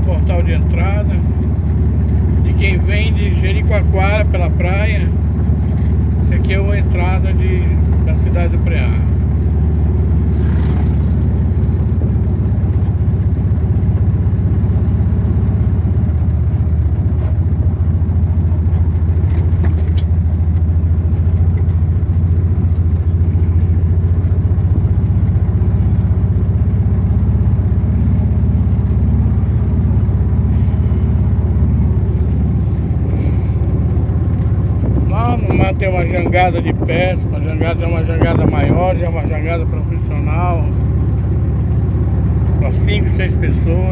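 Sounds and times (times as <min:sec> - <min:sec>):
vehicle engine rumbling: 0:00.0 - 0:43.9.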